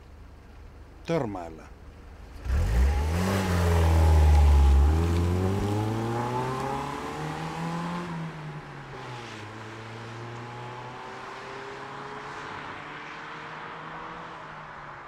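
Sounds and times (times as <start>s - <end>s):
car accelerating with gear changes: 2.3s - 14.5s.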